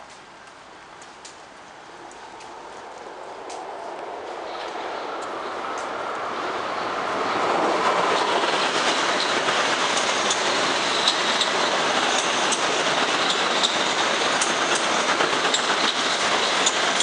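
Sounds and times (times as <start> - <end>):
train wheels rushing on rails: 2.1 - 17.0.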